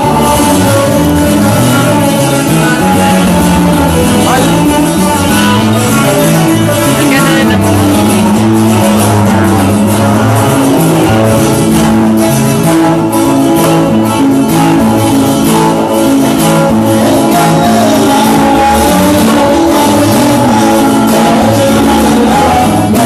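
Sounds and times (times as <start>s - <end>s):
bass line: 0.0s - 23.0s
plucked and strummed guitars: 0.0s - 23.0s.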